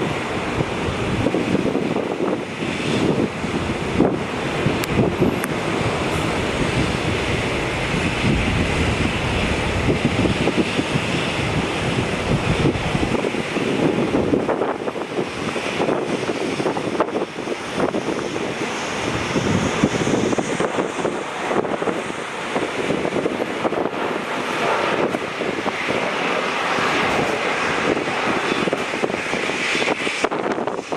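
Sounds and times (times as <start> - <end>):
jet engines roaring: 0.0 - 30.9
wind buffeting microphone: 0.0 - 30.9.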